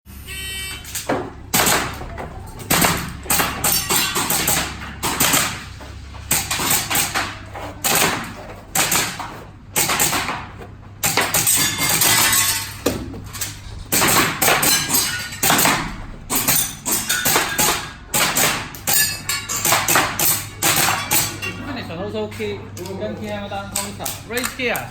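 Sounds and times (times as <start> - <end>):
steady low hum: 0.1 - 24.9.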